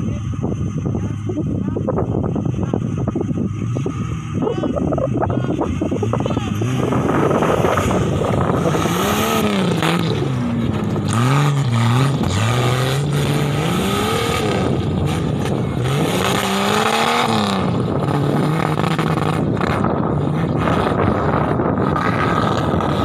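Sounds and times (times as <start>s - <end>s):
buggy engine revving hard: 0.0s - 23.0s.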